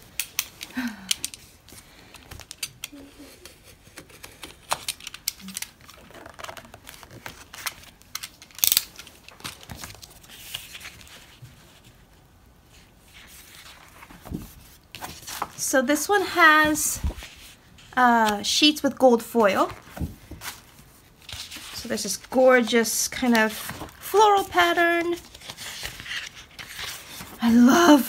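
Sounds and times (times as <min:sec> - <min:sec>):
paper crinkling and rustling: 0:00.0 - 0:15.7, 0:19.2 - 0:28.0.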